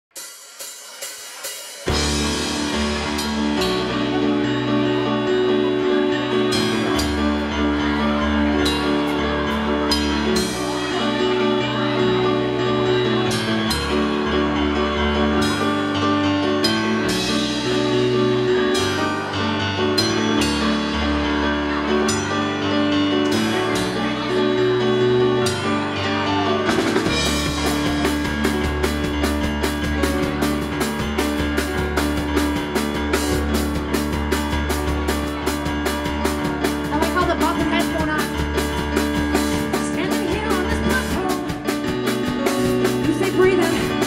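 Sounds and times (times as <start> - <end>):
drum kit with cymbals: 0.1 - 22.5, 23.2 - 44.0
keyboard chords: 1.8 - 44.0
bass notes: 1.9 - 44.0.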